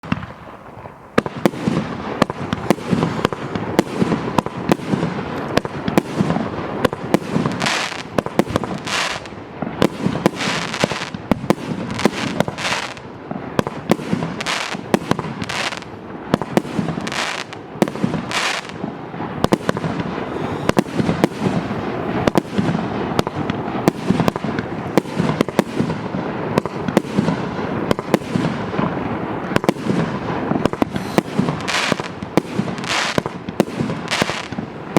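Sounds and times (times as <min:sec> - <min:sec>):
fireworks barrage: 0:00.0 - 0:34.9
fireworks hissing bursts: 0:00.0 - 0:34.9.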